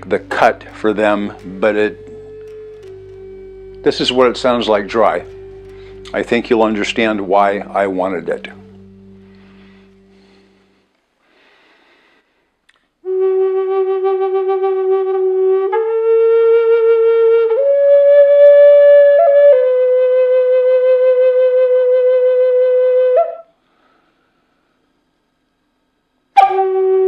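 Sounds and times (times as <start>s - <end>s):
flute playing long notes: 0.0s - 10.8s, 13.0s - 23.5s, 26.4s - 27.0s.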